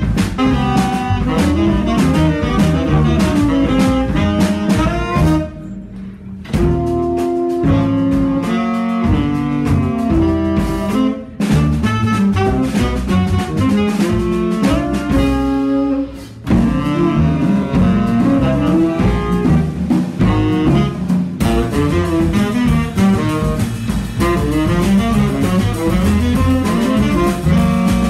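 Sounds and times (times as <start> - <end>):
tenor saxophones playing: 0.0 - 5.9, 6.5 - 28.0
double bass: 0.0 - 28.0
drum kit: 0.0 - 28.0.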